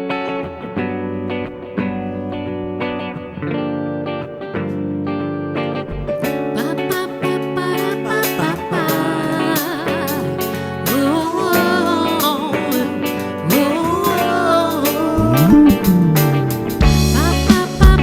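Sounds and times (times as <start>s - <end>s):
live band music with guitar: 0.0s - 18.0s.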